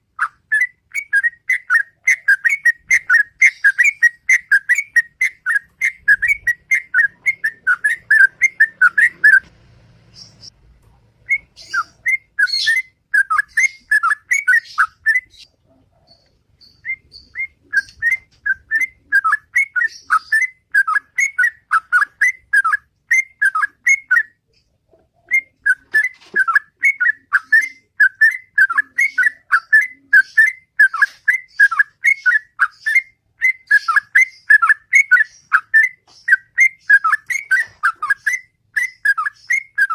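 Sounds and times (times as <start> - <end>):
bird singing whistled notes: 0.2 - 9.5, 10.1 - 10.6, 11.2 - 15.5, 16.1 - 39.9.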